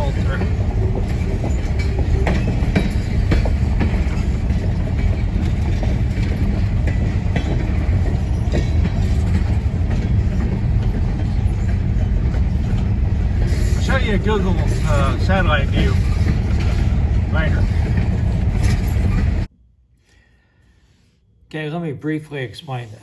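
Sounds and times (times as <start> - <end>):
freight train rumbling past: 0.0 - 19.5
train wheel clicks and clanks: 0.0 - 19.5.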